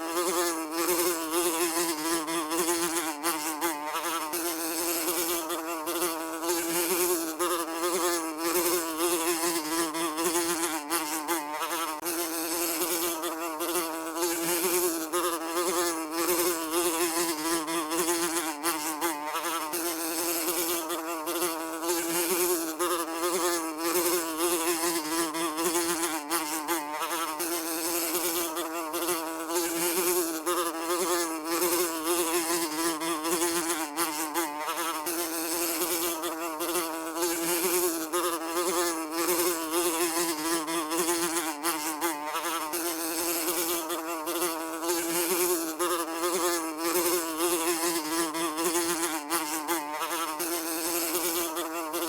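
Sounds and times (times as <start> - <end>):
housefly buzzing: 0.0 - 52.0.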